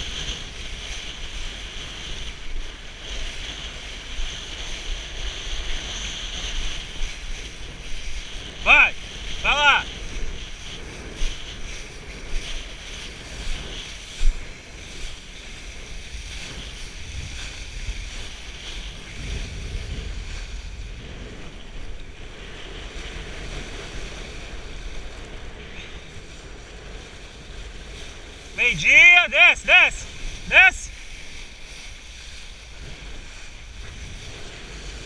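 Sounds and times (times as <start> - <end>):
wind buffeting microphone: 0.0 - 28.6, 30.0 - 35.0
kiteboard skimming over water: 0.0 - 35.0.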